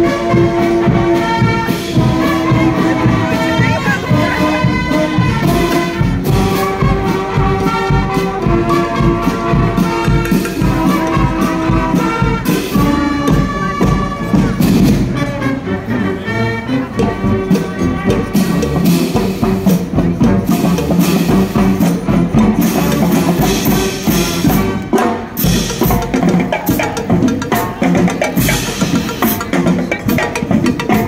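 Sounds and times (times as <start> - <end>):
marching band horns: 0.0 - 31.0
snare and tenor drums: 0.0 - 31.0.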